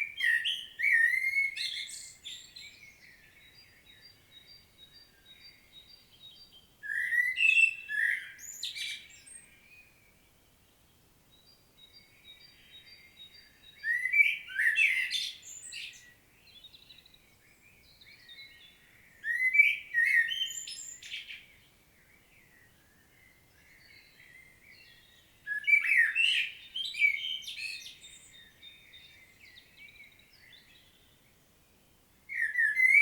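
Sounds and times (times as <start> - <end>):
blackbird singing: 0.0 - 10.2, 11.3 - 31.4, 32.2 - 33.0.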